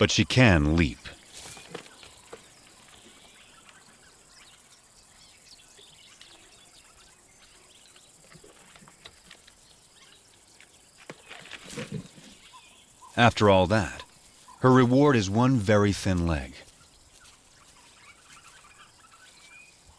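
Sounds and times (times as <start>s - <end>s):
bird chirps: 0.8s - 14.9s, 16.6s - 19.9s.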